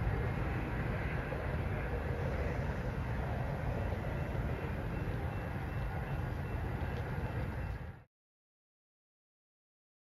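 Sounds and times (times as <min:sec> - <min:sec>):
train rumbling: 0:00.0 - 0:08.1.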